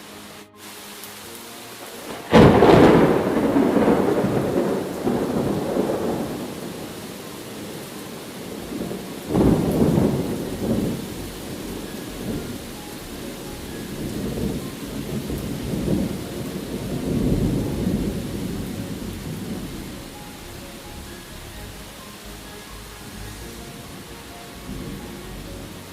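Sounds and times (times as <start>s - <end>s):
steady rain: 0.0s - 25.9s
thunder rolling: 1.8s - 21.8s, 22.7s - 25.9s.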